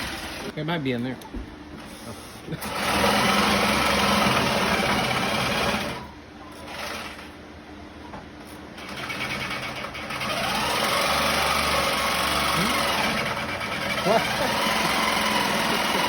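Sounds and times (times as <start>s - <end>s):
small engine running: 0.0s - 0.5s, 1.9s - 7.4s, 8.8s - 16.0s.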